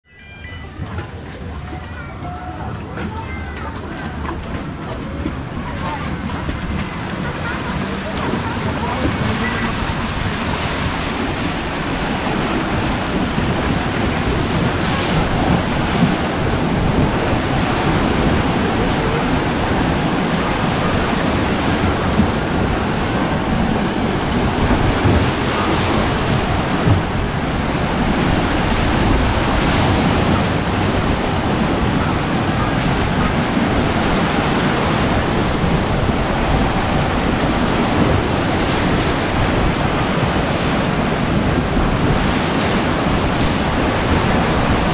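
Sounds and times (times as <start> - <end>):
water rushing and churning: 0.2 - 44.9
wind buffeting microphone: 0.8 - 44.9.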